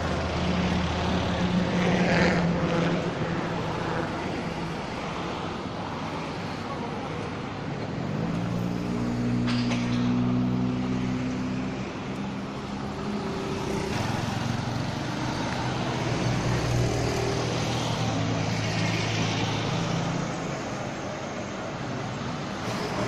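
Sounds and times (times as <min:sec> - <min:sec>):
road noise: 0:00.0 - 0:23.0.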